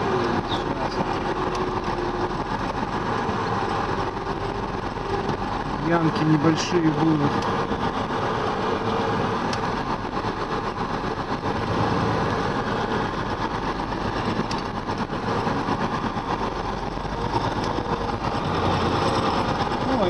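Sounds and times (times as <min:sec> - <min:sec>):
road noise on dirt road: 0:00.0 - 0:20.0
vehicle engine running: 0:00.0 - 0:20.0.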